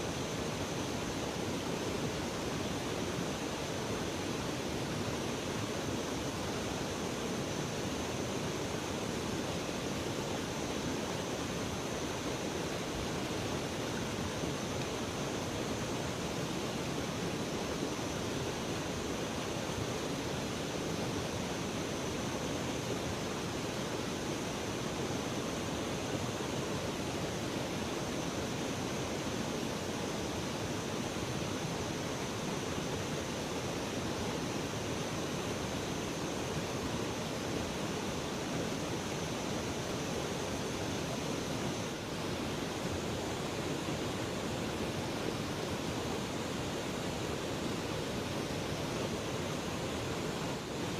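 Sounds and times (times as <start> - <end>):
river water flowing: 0.0 - 50.9.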